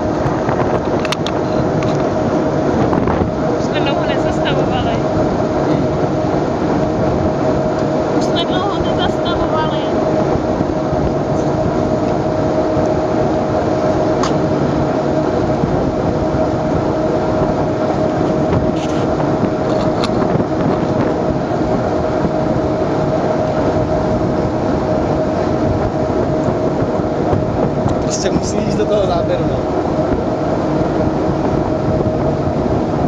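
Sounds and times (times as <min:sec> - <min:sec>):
boat engine droning: 0:00.0 - 0:33.0
water noise: 0:00.0 - 0:33.0
wind noise: 0:00.0 - 0:33.0.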